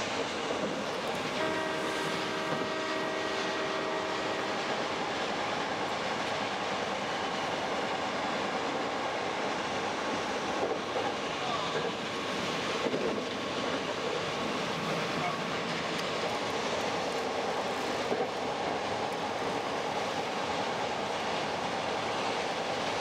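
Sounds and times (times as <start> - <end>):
train wheels rolling on rail: 0.0 - 23.0.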